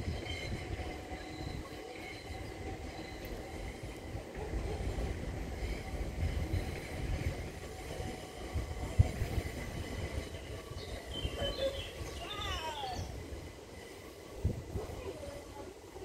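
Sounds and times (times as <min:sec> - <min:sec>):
faint whining tones: 0:00.0 - 0:16.0
train rumbling: 0:00.0 - 0:16.0.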